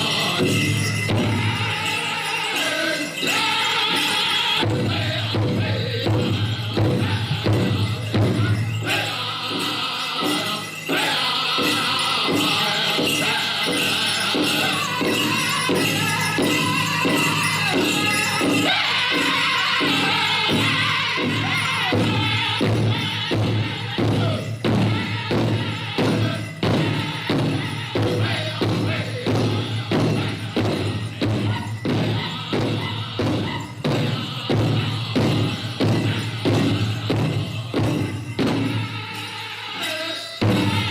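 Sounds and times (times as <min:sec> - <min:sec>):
young men singing in harmony: 0:00.0 - 0:40.9
steady thumping beat: 0:04.6 - 0:39.1.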